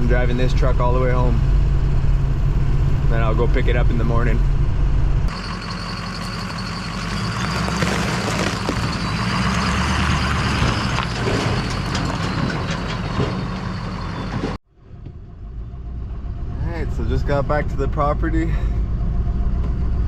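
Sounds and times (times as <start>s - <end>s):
quiet engine: 0.0s - 20.0s
truck engine and road noise: 0.0s - 20.0s.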